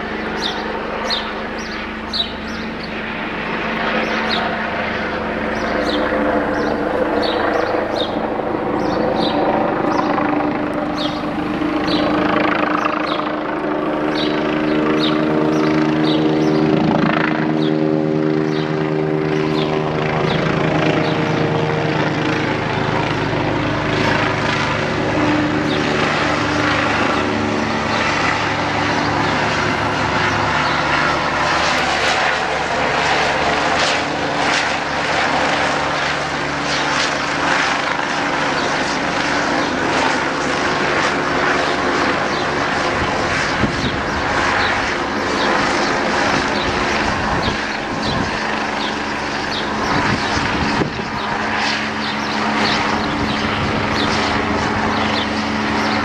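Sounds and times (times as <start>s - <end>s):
helicopter flying overhead: 0.0s - 56.0s
steady humming tone: 0.0s - 56.0s.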